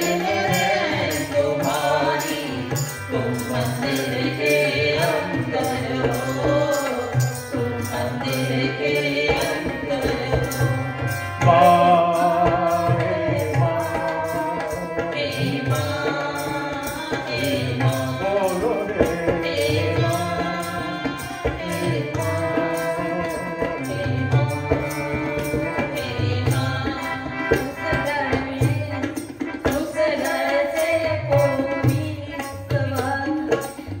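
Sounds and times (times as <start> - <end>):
person singing: 0.0 - 29.0.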